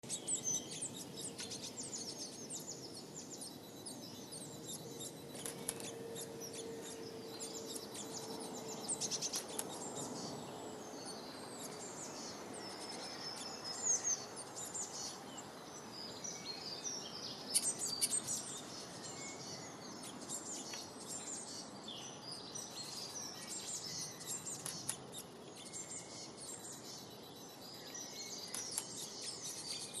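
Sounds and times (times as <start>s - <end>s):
small birds twittering: 0.0s - 30.0s.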